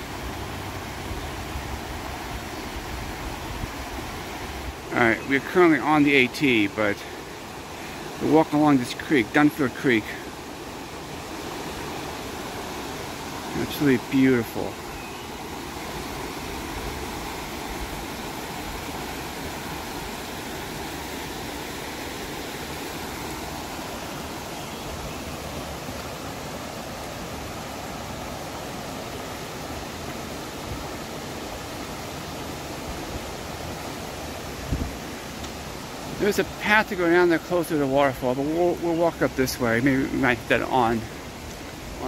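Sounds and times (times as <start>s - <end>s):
creek rushing over stones: 0.0s - 42.0s.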